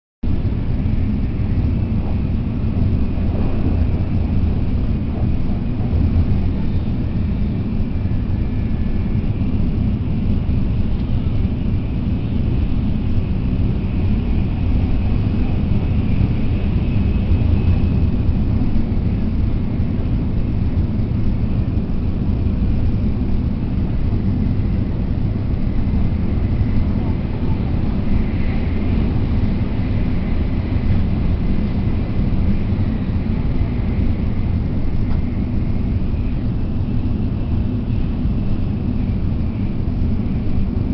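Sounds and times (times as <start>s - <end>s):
train running noise: 0.2s - 40.9s.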